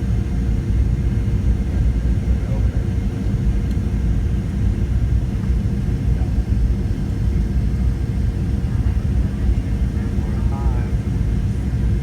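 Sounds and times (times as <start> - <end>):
airliner low rumble: 0.0 - 12.0.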